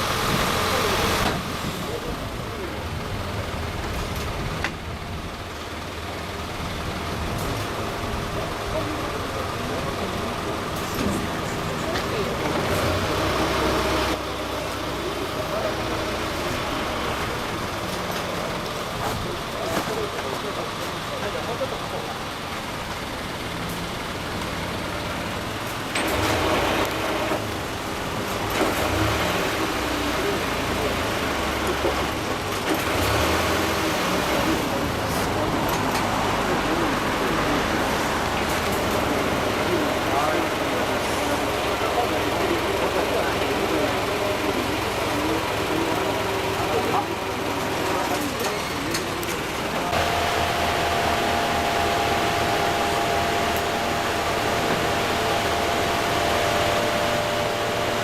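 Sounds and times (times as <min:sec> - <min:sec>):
distant voices: 0:00.0 - 0:58.0
motor engine idling: 0:00.0 - 0:58.0.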